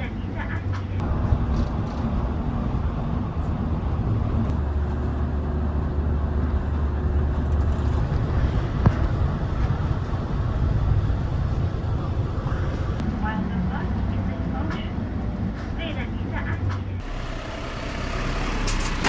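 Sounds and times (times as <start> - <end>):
low engine hum: 0.0 - 19.0
road rumble: 0.0 - 19.0.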